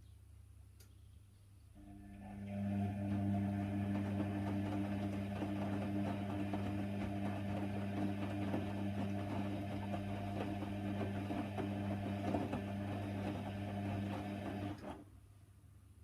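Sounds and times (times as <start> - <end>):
drain pump humming: 1.8 - 15.0.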